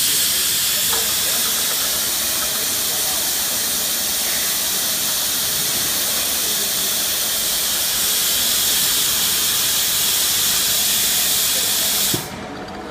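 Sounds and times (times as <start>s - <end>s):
cutting torch hissing: 0.0s - 12.3s.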